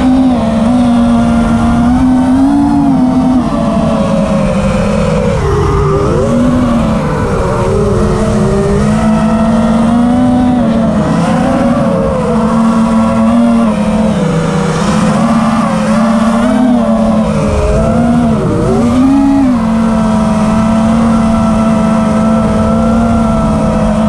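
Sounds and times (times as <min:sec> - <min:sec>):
drone motors whining: 0:00.0 - 0:24.0
low rumble: 0:00.0 - 0:24.0.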